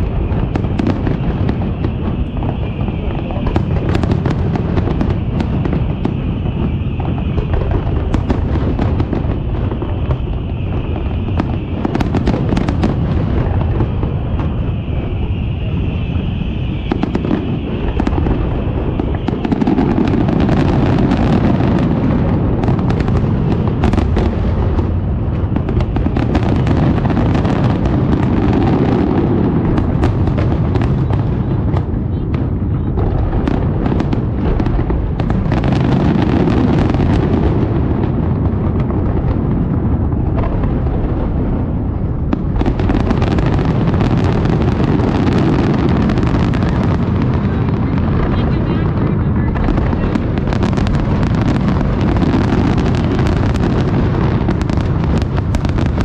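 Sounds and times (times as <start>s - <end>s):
fireworks booming: 0.0s - 56.0s
fireworks crackling: 0.0s - 56.0s.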